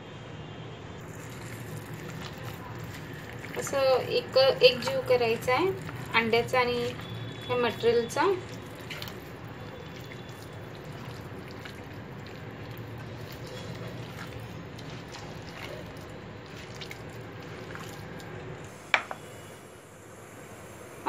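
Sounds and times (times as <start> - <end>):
hand squelching wet mince in bowl: 1.2 - 18.6.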